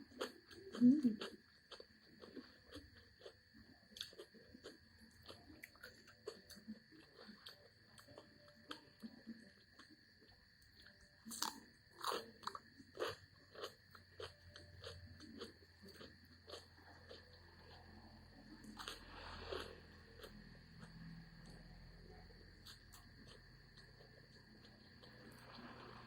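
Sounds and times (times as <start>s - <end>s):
chewing and crunching food: 0.0s - 26.0s.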